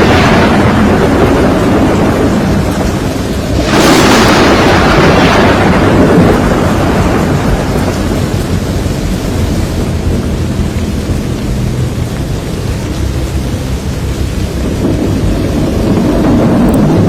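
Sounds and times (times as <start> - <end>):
rainstorm rushing noise: 0.0 - 17.0
thunder rumbling: 0.0 - 17.0.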